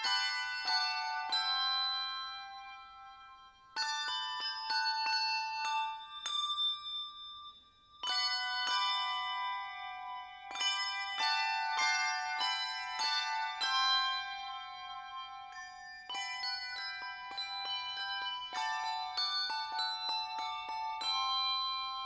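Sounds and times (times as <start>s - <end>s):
bell-like notes playing a melody: 0.0s - 22.0s.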